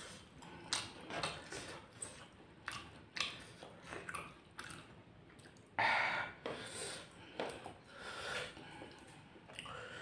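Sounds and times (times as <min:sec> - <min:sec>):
chewing and crunching food: 0:00.0 - 0:05.8, 0:06.4 - 0:10.0.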